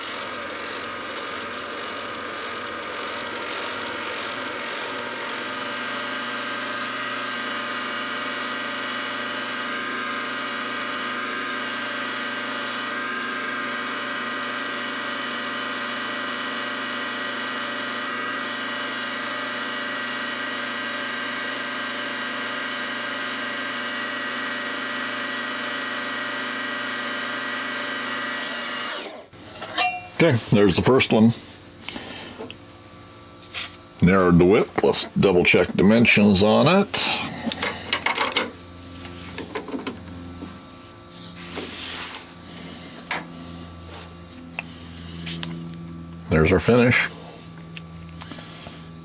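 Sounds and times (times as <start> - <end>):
milling machine hum with whine: 0.0 - 49.0.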